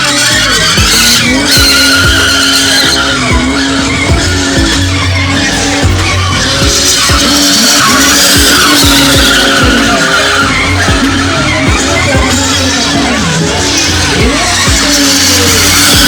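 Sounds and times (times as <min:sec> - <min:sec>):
bass-heavy music with thumping beat: 0:00.0 - 0:16.0
car engine revving: 0:00.0 - 0:16.0
tyres squealing: 0:00.0 - 0:16.0.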